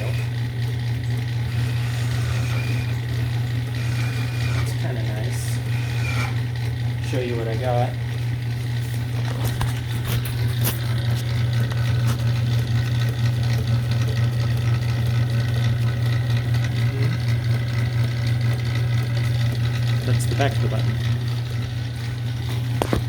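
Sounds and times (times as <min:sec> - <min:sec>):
lathe humming and whining: 0:00.0 - 0:23.0.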